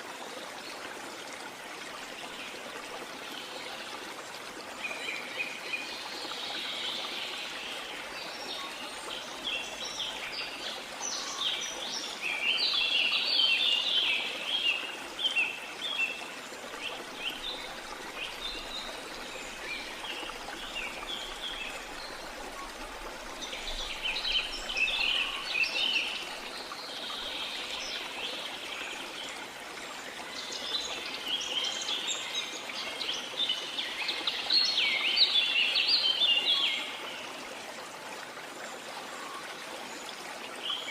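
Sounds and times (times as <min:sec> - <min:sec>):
running water hiss: 0:00.0 - 0:40.9.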